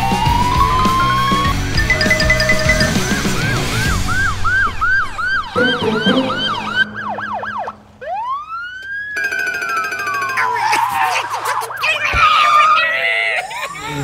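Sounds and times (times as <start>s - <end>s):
police siren yelp and wail: 0.0s - 2.0s, 2.8s - 14.0s.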